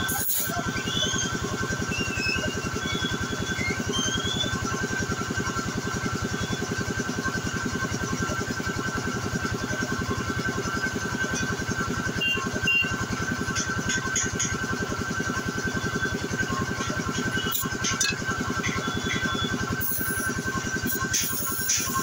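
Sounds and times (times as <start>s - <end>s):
air compressor chugging: 0.0s - 22.0s.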